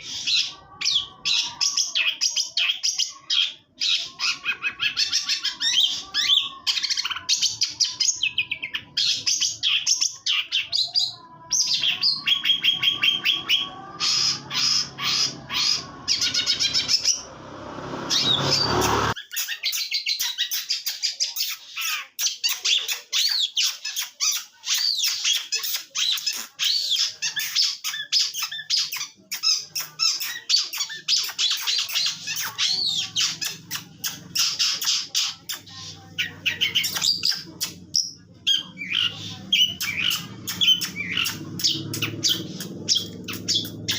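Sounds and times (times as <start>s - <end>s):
bird chattering song: 0.0s - 43.9s.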